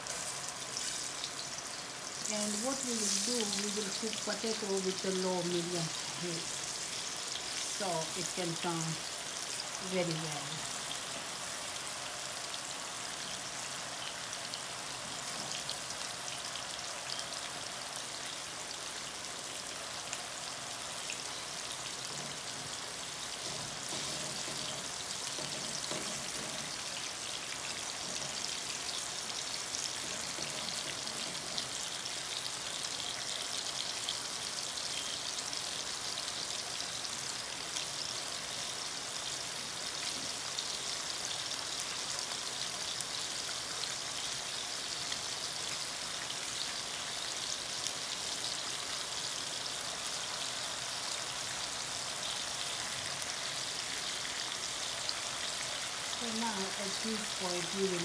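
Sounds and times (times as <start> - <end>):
potatoes sizzling in hot oil: 0.0 - 58.0.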